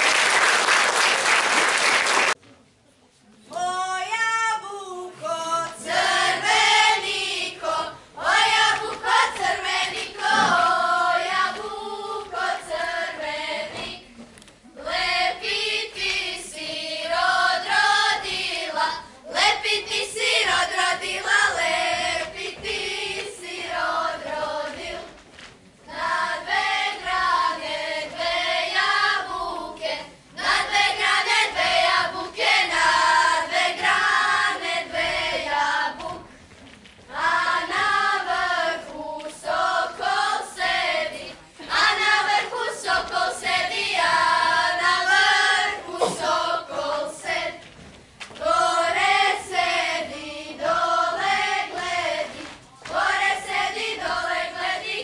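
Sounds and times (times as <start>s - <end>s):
girls singing unaccompanied: 3.6s - 55.0s.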